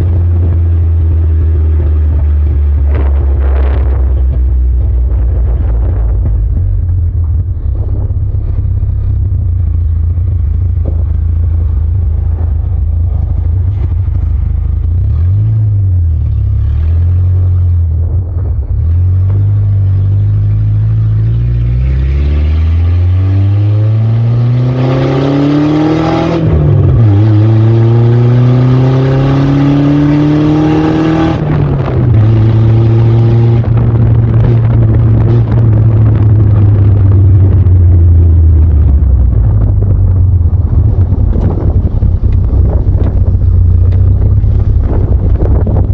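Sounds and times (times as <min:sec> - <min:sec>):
pickup engine accelerating: 0:00.0 - 0:45.9.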